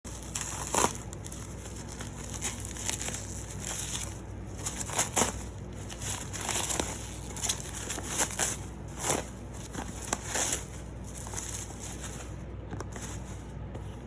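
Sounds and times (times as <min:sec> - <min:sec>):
plastic and cardboard crinkling: 0:00.1 - 0:14.0.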